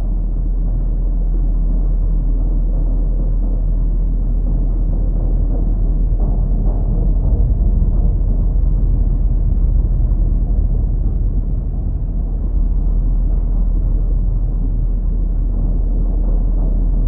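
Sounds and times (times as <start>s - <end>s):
loud low rumble: 0.0s - 17.0s.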